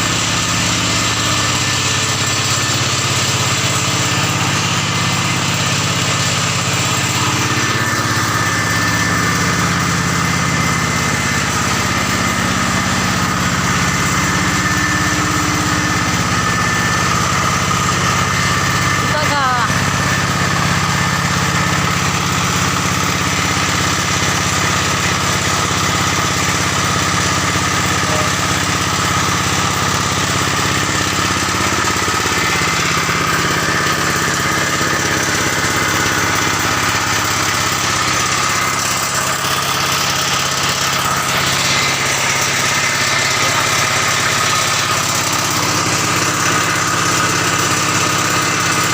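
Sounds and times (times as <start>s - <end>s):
drilling rig engine running: 0.0s - 48.9s.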